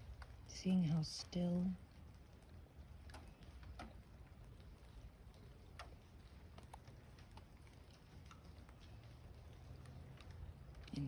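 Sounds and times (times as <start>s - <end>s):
water drips ticking: 0.0s - 11.0s.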